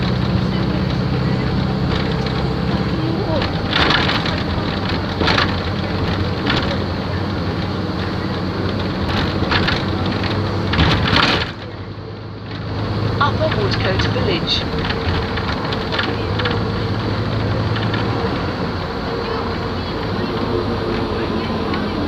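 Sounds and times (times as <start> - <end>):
knocks and rattles: 0.0 - 19.8
bus engine hum: 0.0 - 22.0.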